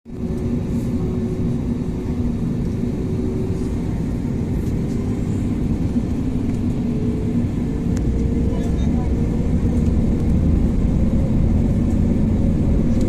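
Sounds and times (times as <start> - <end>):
aircraft cabin engine rumble: 0.1 - 13.0.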